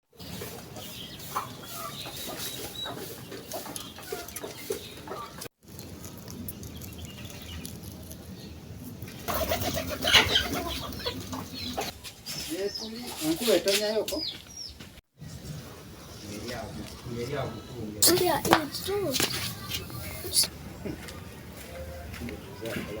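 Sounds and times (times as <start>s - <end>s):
chickens clucking: 0.2s - 5.5s, 9.2s - 23.0s.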